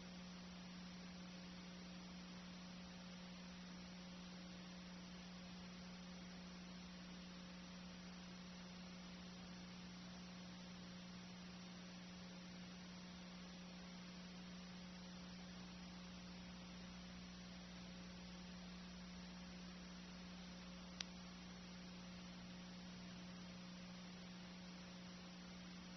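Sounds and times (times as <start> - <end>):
faint hiss: 0.0 - 25.9
low electrical hum: 0.0 - 25.9.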